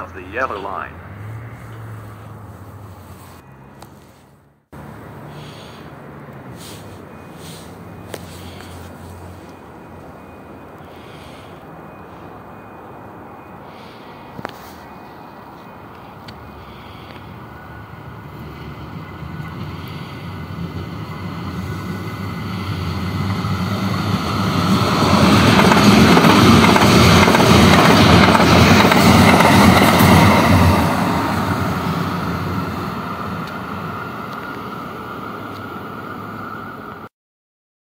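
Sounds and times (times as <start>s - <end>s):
light-rail train passing: 0.0s - 37.1s
wheels clacking on rails: 4.8s - 37.1s.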